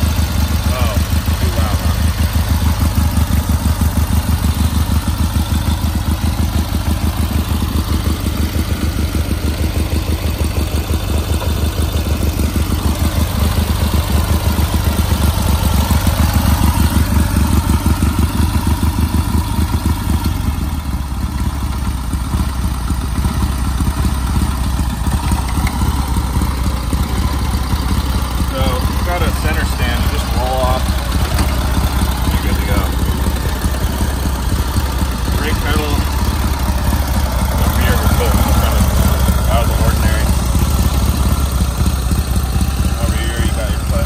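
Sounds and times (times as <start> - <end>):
motorcycle engine idling: 0.0 - 44.0.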